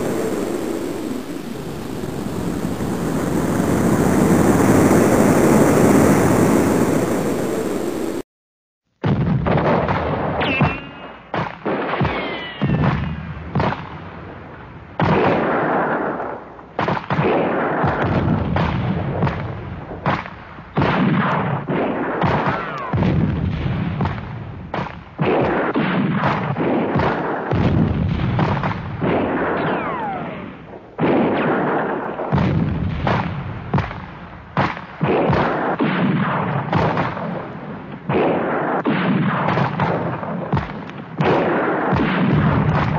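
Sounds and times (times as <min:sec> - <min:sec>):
explosions: 0:00.0 - 0:08.2, 0:09.0 - 0:42.9
gunfire: 0:00.0 - 0:08.2, 0:09.0 - 0:42.9.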